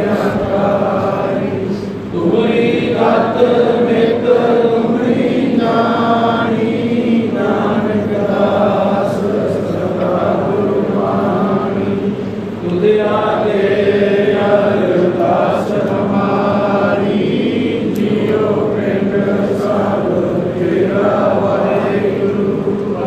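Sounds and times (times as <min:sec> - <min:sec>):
man chanting a hymn: 0:00.0 - 0:23.0.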